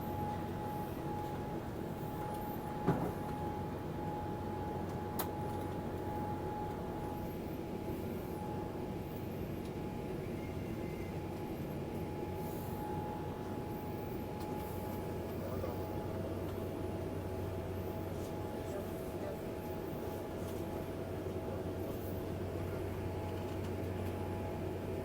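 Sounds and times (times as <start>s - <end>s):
jet engines droning in cabin: 0.0s - 25.0s.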